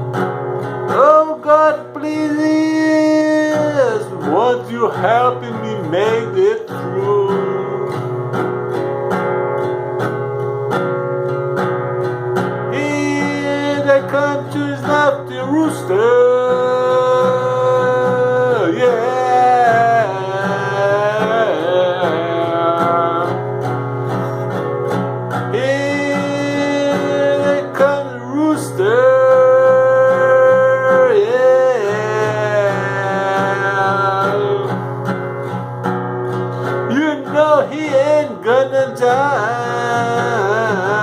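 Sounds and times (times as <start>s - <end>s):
strummed acoustic guitar: 0.0s - 41.0s.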